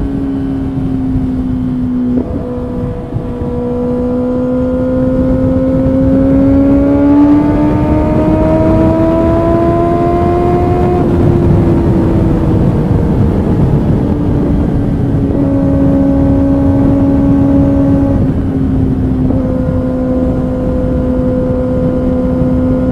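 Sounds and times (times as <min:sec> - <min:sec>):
low steady rushing noise: 0:00.0 - 0:22.9
motorcycle engine revving: 0:00.0 - 0:22.9.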